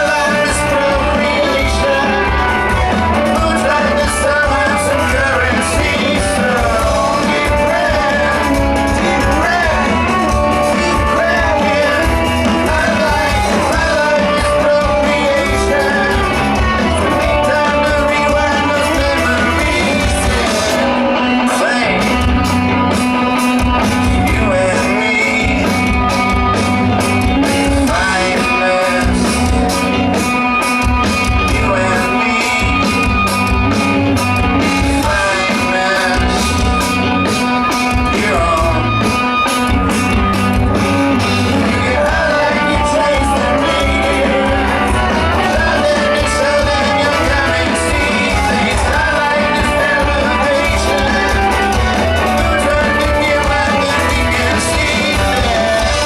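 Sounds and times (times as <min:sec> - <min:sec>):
lead voice singing: 0:00.0 - 0:56.0
rock band playing: 0:00.0 - 0:56.0.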